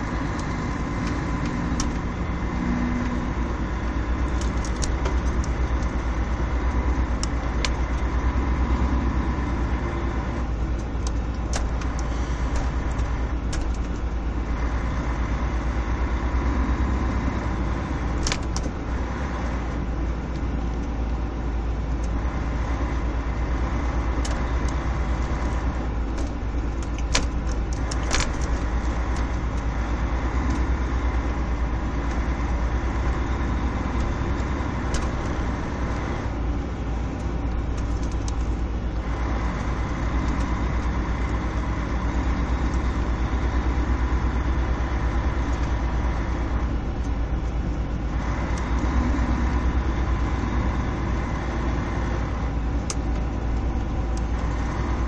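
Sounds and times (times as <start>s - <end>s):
car engine low rumble: 0.0s - 55.0s.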